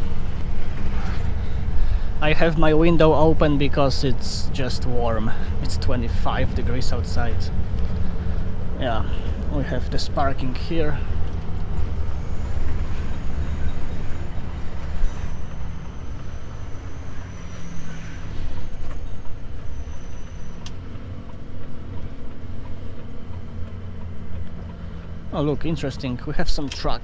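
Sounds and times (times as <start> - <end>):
truck diesel engine droning: 0.0 - 27.0.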